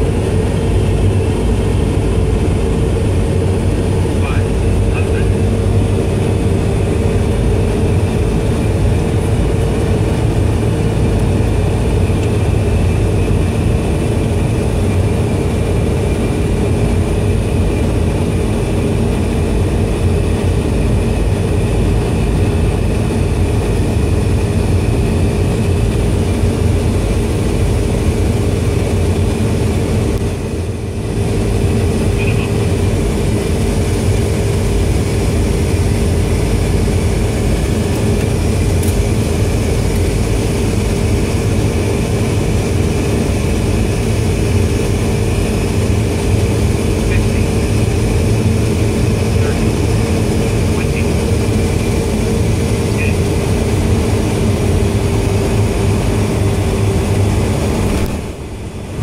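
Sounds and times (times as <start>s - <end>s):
constant hum: 0.0s - 59.0s
turboprop engines droning: 0.0s - 59.0s.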